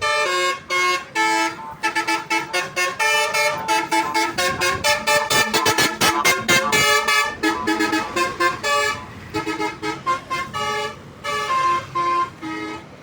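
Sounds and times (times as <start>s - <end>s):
bus musical horn playing tune: 0.0s - 13.0s.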